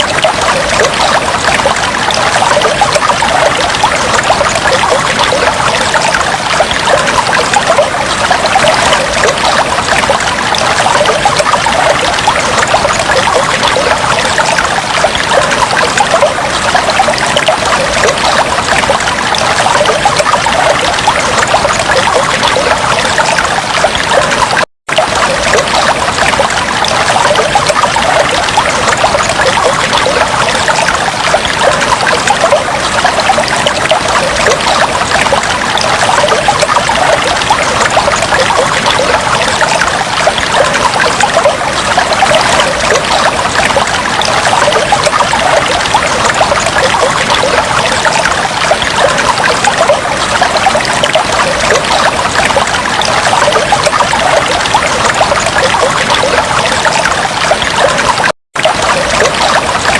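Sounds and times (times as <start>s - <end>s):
fish tank water bubbling: 0.0s - 59.9s.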